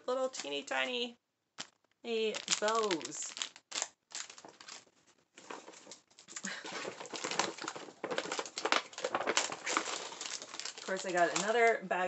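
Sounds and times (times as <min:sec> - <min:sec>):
bags and packaging rustling: 0:01.6 - 0:12.0.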